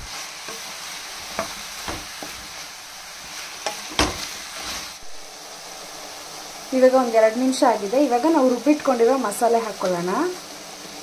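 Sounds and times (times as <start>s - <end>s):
mushrooms sizzling in hot oil: 0.0s - 11.0s.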